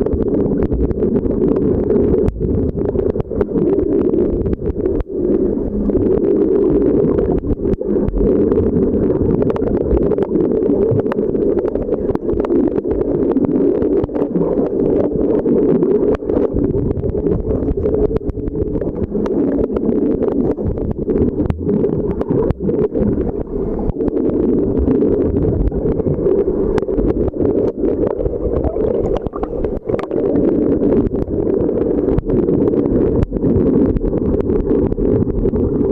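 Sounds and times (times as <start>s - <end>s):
muffled underwater rumble: 0.0s - 35.9s
small clicks and crackles: 0.0s - 35.9s.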